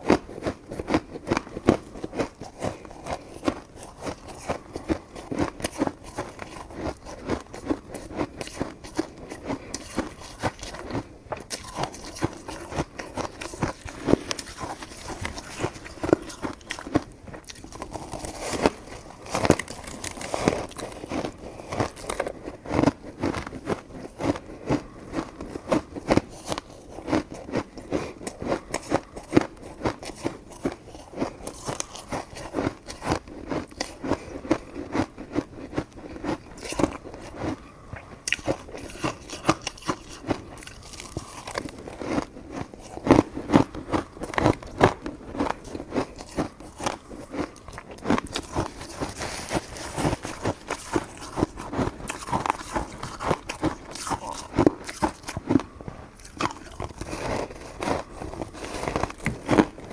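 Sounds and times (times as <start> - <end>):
chewing sticky food: 0.0 - 59.9.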